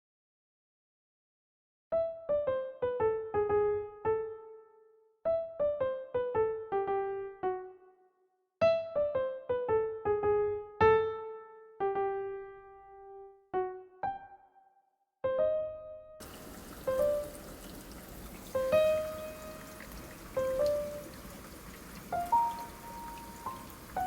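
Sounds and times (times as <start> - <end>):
solo piano melody: 1.9 - 24.0.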